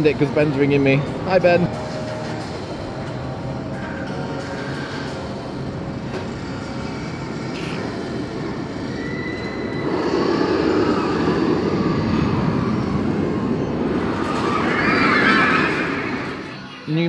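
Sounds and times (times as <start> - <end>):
roller coaster wheels rumbling on track: 0.0 - 16.6.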